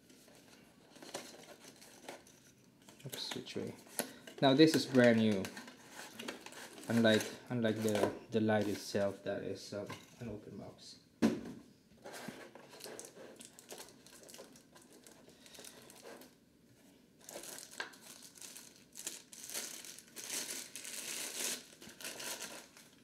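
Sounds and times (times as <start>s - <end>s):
plastic wrapping crinkling: 0.0s - 9.0s, 12.5s - 16.4s, 17.2s - 23.0s.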